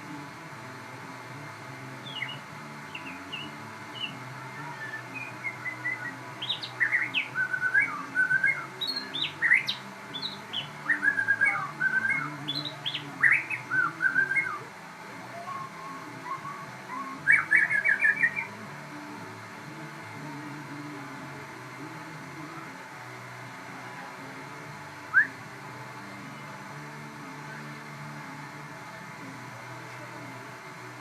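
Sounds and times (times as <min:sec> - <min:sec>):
songbird singing: 0:00.1 - 0:31.0.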